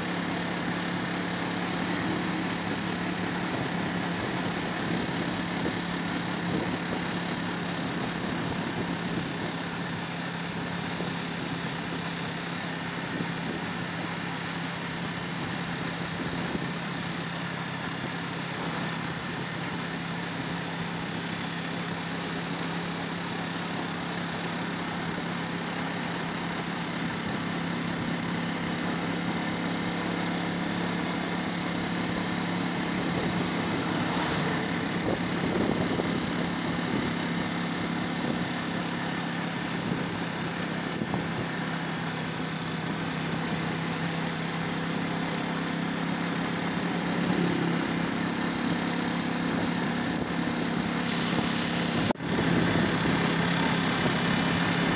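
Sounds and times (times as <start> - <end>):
small vehicle engine running: 0.0 - 54.9
wind and road hiss: 0.0 - 54.9.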